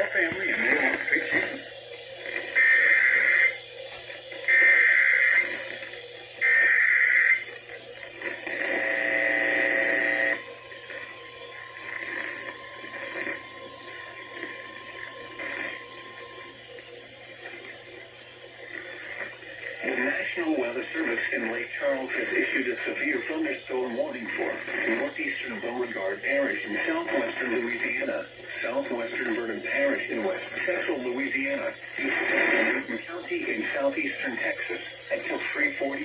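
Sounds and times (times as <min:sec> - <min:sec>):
data burst tones: 0:00.0 - 0:36.0
loud attention tone: 0:00.0 - 0:36.0.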